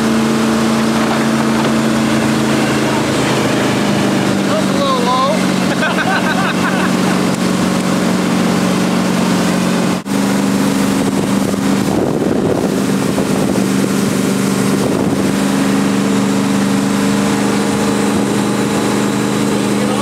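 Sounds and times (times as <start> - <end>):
boat engine running: 0.0 - 20.0
rush of wind and water: 0.0 - 20.0.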